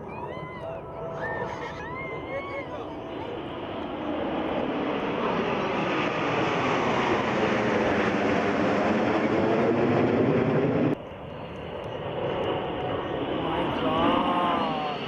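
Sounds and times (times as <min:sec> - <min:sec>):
jet aircraft roar: 0:00.0 - 0:15.0.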